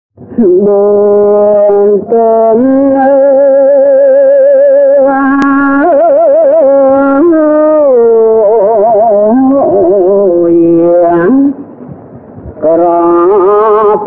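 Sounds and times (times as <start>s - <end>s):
old man chanting: 0.3s - 11.6s, 12.6s - 14.0s.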